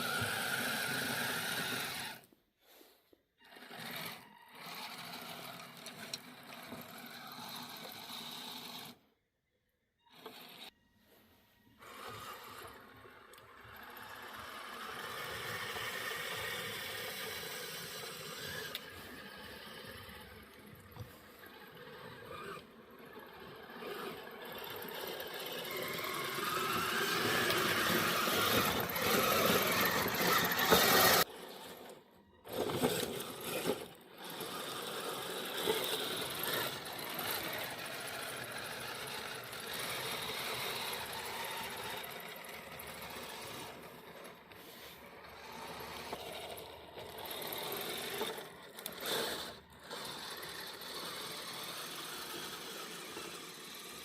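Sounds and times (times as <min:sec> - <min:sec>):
toy motor and gear whine: 0:00.0 - 0:02.3, 0:03.4 - 0:09.1, 0:10.0 - 0:10.8, 0:11.6 - 0:54.0.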